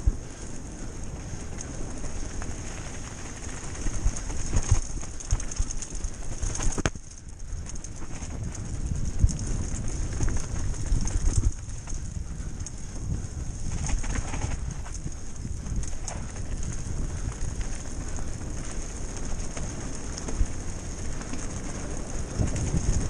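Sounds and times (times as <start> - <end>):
tyres rattling over dirt trail: 0.0 - 23.0
wind buffeting microphone: 0.0 - 23.0.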